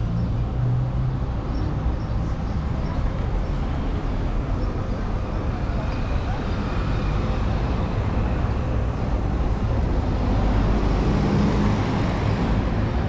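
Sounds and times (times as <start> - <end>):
rumble of passing cars: 0.0 - 13.0.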